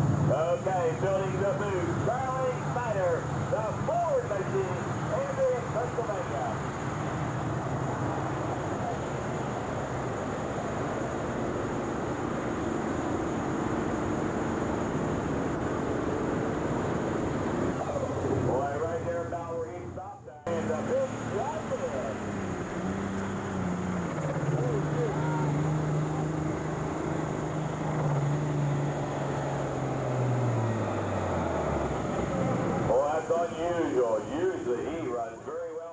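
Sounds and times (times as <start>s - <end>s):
tractor diesel engine at full throttle: 0.0s - 35.3s.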